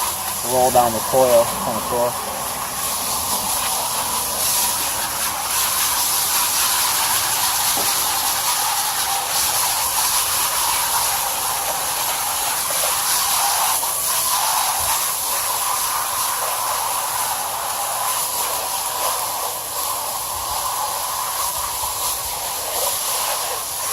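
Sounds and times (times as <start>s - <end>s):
hose spraying water: 0.0s - 23.9s.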